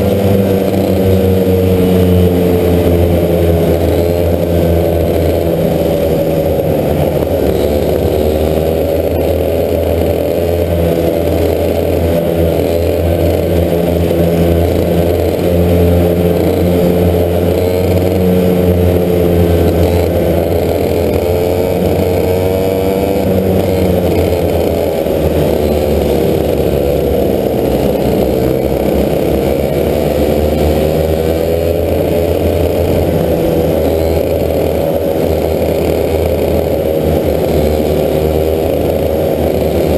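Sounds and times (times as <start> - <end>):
racing kart engines: 0.0 - 39.9.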